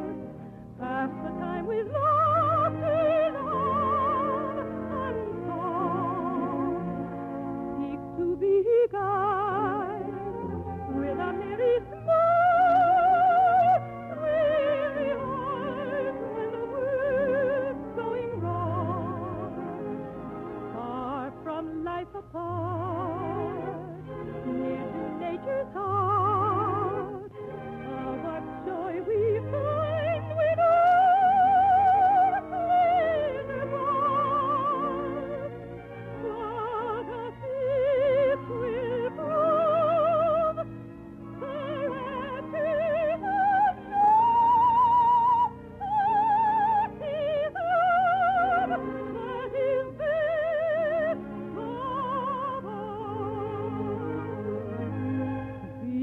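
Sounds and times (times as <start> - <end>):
operatic soprano singing: 0.0 - 56.0
orchestral accompaniment: 0.0 - 56.0.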